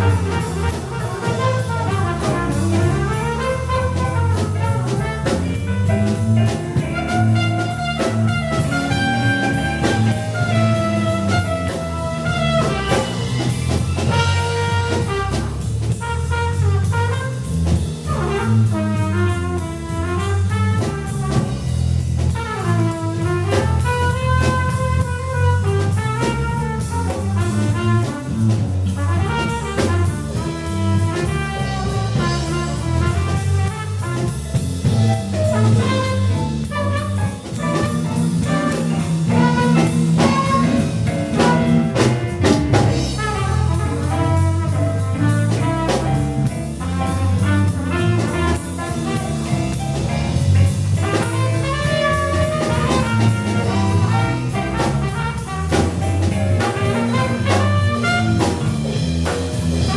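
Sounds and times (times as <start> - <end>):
brass horn melody: 0.0 - 59.9
jazz band playing: 0.0 - 59.9.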